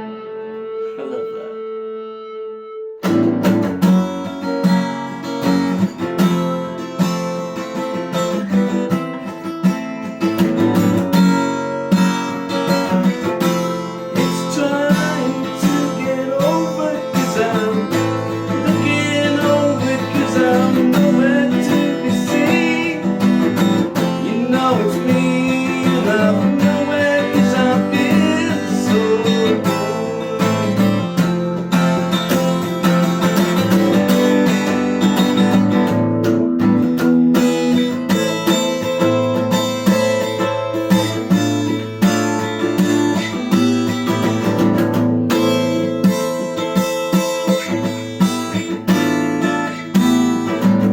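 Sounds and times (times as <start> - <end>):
acoustic guitar chords: 0.0 - 50.9.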